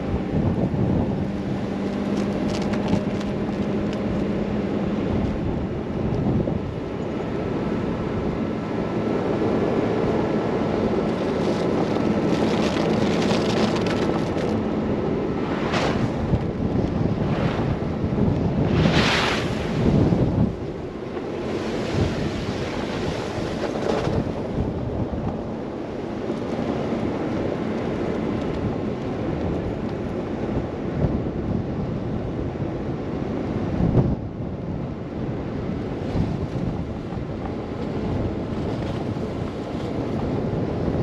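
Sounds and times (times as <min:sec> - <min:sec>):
blizzard wind buffeting microphone: 0:00.0 - 0:41.0.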